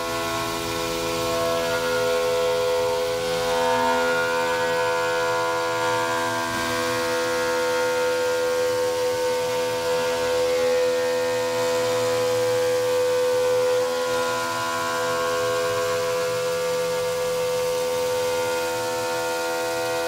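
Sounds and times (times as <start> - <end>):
milling spindle whine: 0.0 - 20.0.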